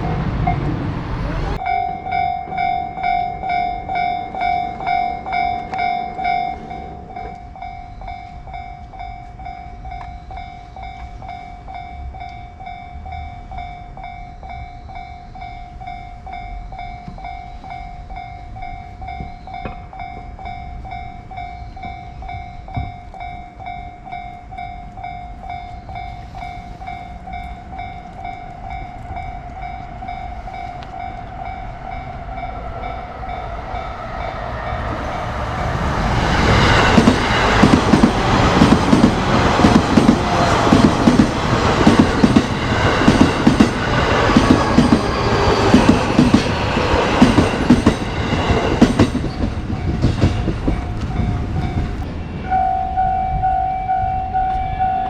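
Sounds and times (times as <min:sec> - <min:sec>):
railroad crossing warning bell: 0:00.0 - 0:55.0.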